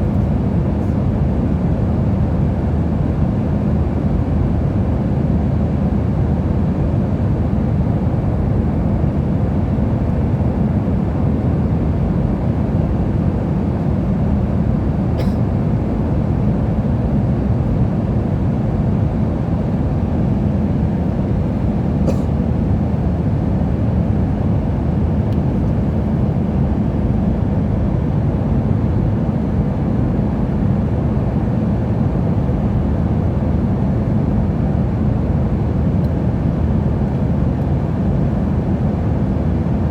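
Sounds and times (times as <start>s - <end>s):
airliner cabin engine and airflow hum: 0.0s - 39.9s.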